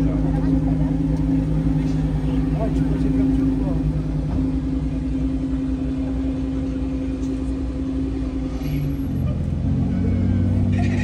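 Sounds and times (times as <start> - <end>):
deeper car engine: 0.0 - 11.0
steady car engine: 0.0 - 11.0.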